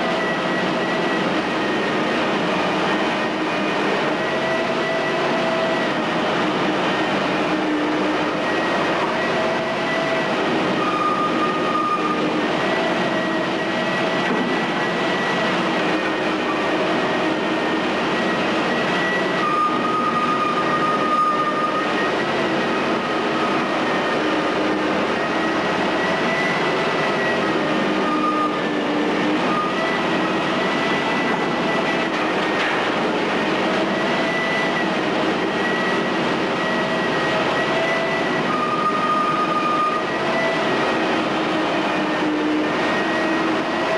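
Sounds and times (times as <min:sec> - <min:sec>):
excavator mechanical din: 0:00.0 - 0:43.9
high metallic squeals: 0:00.0 - 0:43.9.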